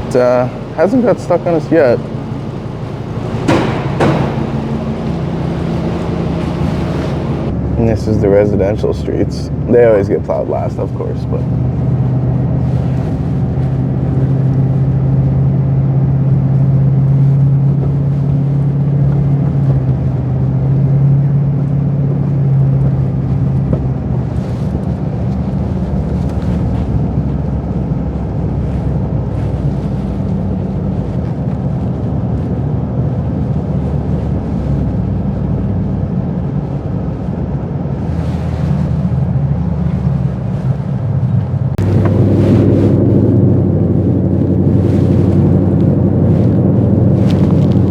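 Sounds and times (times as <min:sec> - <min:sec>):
truck engine droning: 0:00.0 - 0:29.1, 0:37.4 - 0:47.9.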